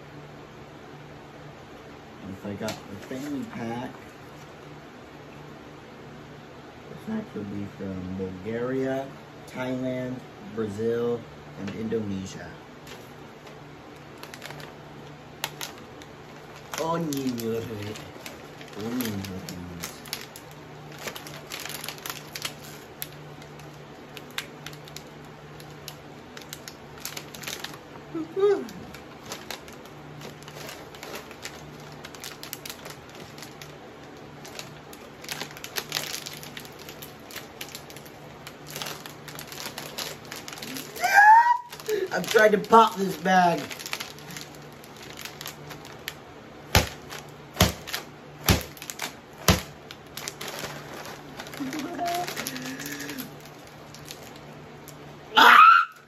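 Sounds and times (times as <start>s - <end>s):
plastic snack bag crinkling: 2.4s - 4.6s, 11.7s - 55.8s.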